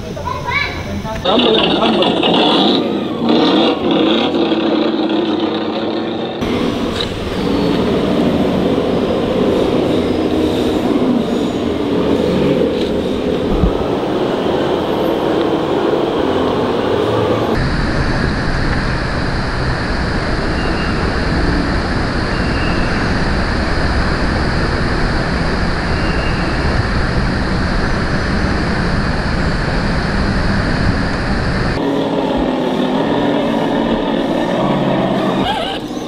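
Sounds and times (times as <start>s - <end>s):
loud steady rushing noise: 0.0s - 36.0s.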